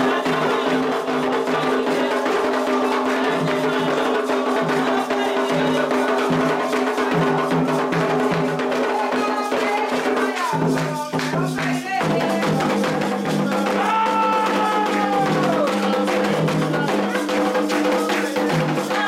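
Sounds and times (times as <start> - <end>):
hand drums playing fast rhythm: 0.0 - 19.0.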